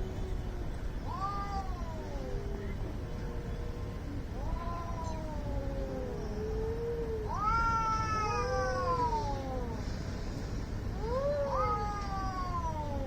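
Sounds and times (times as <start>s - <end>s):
cats yowling: 0.0s - 9.9s, 10.9s - 13.0s.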